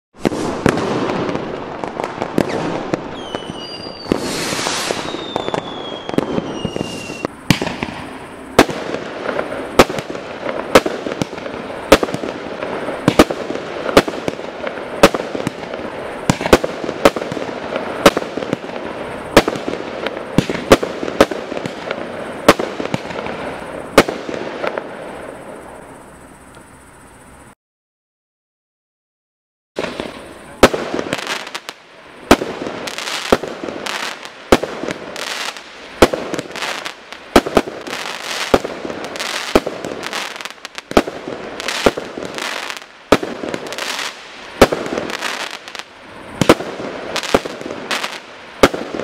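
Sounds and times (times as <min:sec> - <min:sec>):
firework sharp bangs: 0:00.2 - 0:26.7, 0:29.8 - 0:49.0
firework hissing crackle: 0:00.2 - 0:27.5, 0:29.8 - 0:49.0
firework falling whistles: 0:00.2 - 0:27.6, 0:29.8 - 0:49.0.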